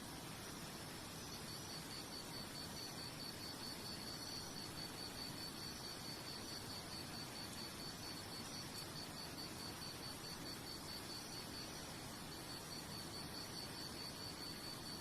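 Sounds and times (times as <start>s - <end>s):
steady hiss: 0.0s - 15.0s
insect chirping: 0.1s - 15.0s.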